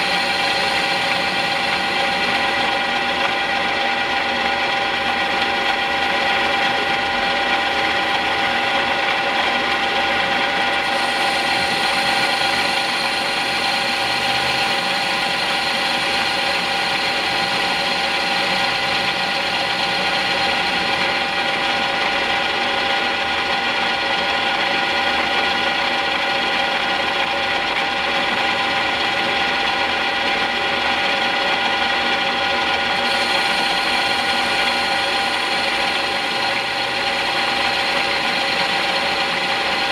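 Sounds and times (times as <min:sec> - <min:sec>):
metal lathe gearing whine: 0:00.0 - 0:39.9.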